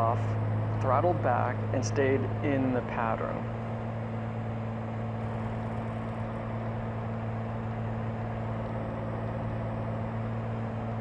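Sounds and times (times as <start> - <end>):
aircraft engine and propeller droning: 0.0 - 11.0.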